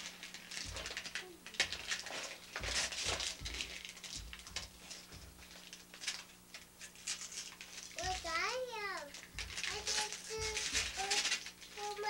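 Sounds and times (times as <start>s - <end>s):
wrapping paper crinkling and tearing: 0.0s - 12.0s.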